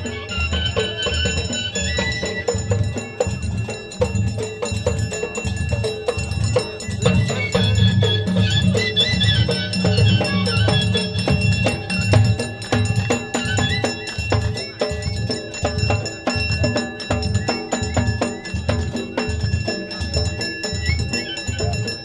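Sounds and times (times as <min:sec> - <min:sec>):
metallic percussion ringing: 0:00.0 - 0:22.0.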